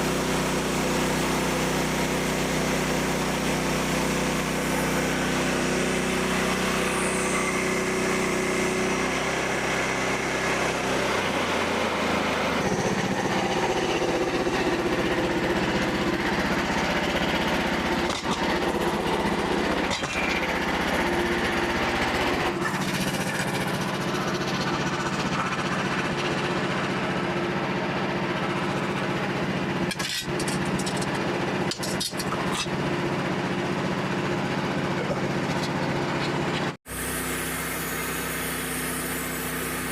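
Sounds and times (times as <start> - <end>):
bandsaw mill sawing wood: 0.0 - 39.9.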